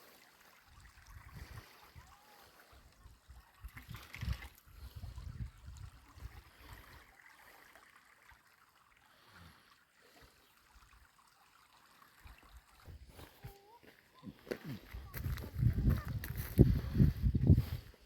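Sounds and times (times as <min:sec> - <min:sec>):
faint running water: 0:00.0 - 0:18.0.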